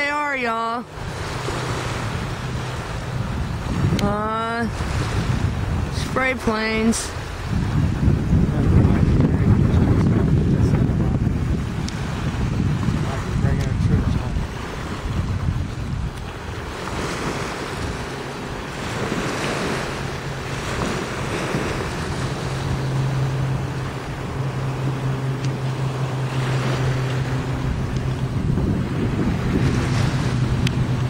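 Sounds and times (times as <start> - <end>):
plane engines droning overhead: 0.0 - 31.0
wind on the microphone: 0.8 - 31.0.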